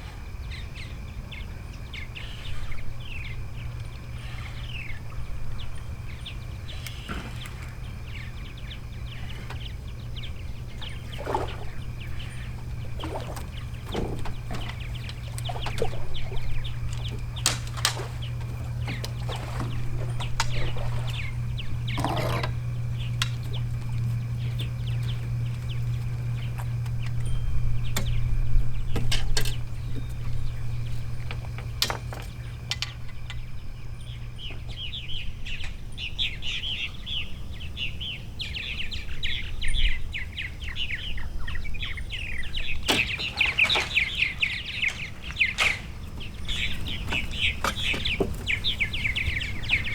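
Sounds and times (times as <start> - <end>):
steady low hum: 0.0 - 49.9
bird chirping: 0.4 - 31.7, 32.3 - 49.9.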